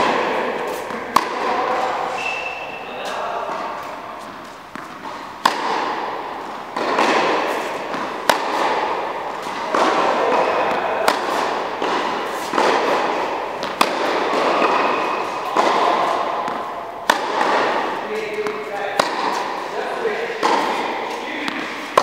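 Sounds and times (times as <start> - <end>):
tennis ball struck by racket: 0.0 - 22.0.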